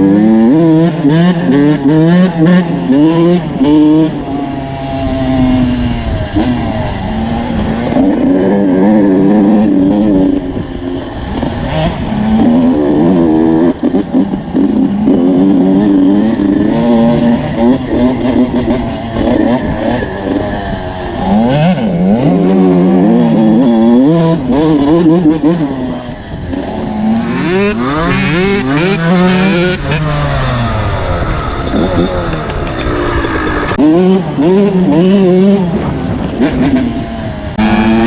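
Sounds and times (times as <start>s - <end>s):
motocross bike engine revving: 0.0s - 38.0s.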